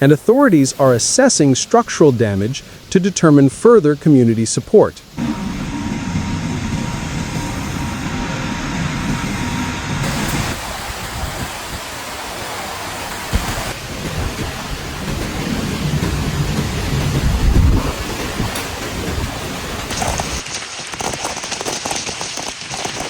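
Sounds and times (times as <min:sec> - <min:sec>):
storm wind and rain: 0:00.0 - 0:23.0.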